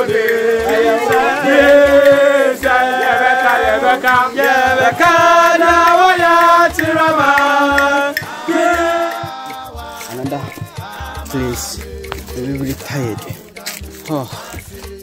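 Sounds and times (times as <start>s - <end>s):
person singing drawn-out notes: 0.0s - 15.0s
steady low beat: 0.0s - 15.0s.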